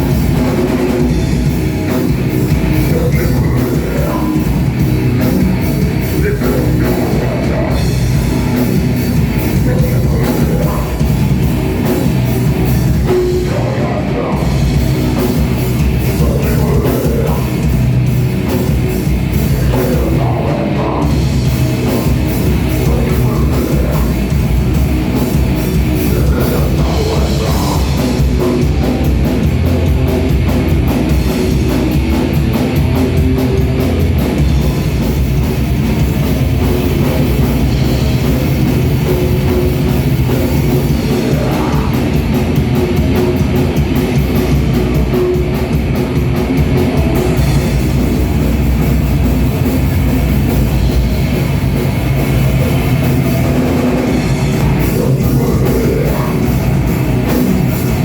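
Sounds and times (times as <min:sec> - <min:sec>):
distorted electric guitars and bass: 0:00.0 - 0:58.0
fast pounding drum kit: 0:00.0 - 0:58.0.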